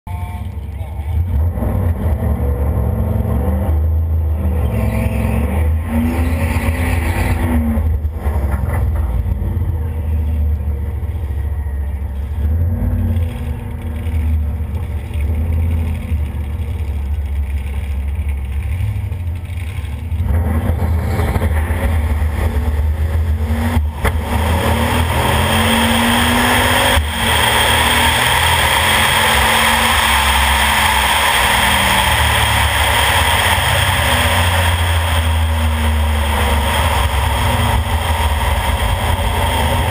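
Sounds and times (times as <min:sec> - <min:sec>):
car engine rumbling: 0:00.0 - 0:39.9
car engine at full throttle: 0:00.1 - 0:39.9.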